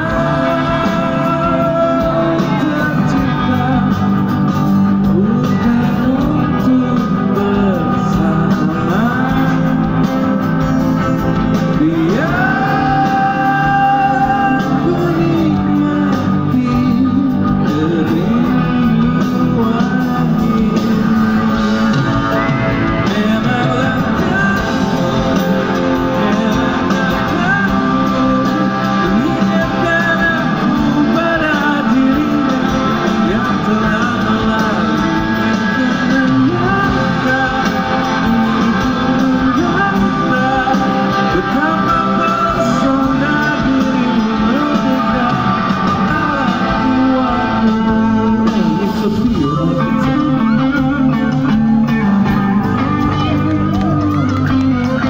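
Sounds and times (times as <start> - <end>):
live pop rock band: 0.0 - 55.0
man singing: 0.0 - 55.0.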